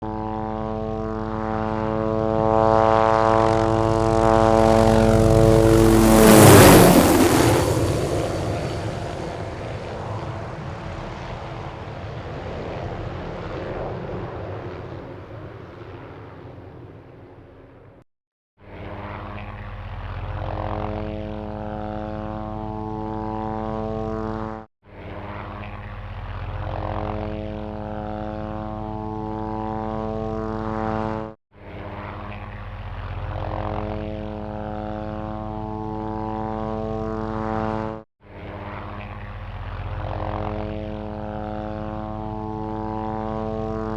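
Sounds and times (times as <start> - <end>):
helicopter rotor drone: 0.0 - 17.6, 18.6 - 43.9.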